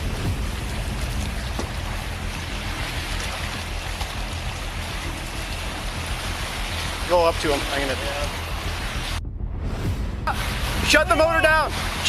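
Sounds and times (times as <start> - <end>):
boat motor humming: 0.0 - 12.0
rushing wind: 0.0 - 12.0
water noise: 0.0 - 12.0.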